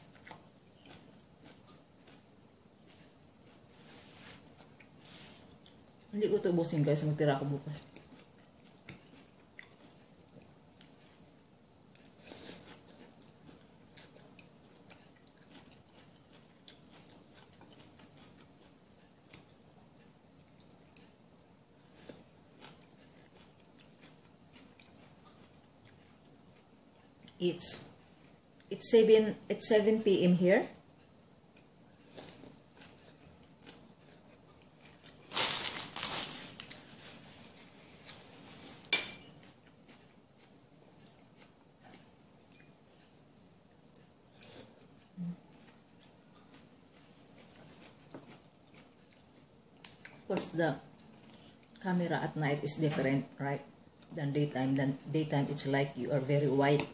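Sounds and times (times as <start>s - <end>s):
person chewing: 0.0s - 6.1s, 7.8s - 27.4s, 30.8s - 51.8s
crunchy rustling eating: 0.0s - 29.0s, 29.6s - 56.9s.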